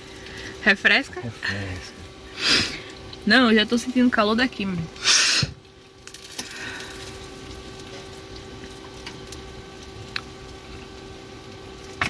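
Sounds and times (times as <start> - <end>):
faint steady hum: 0.0 - 12.0
rain on a roof: 0.0 - 12.0.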